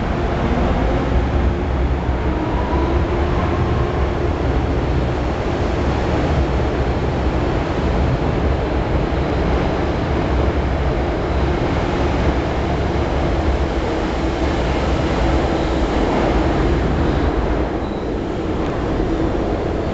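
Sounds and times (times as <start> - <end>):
train wheels and motors rumbling: 0.0 - 19.9.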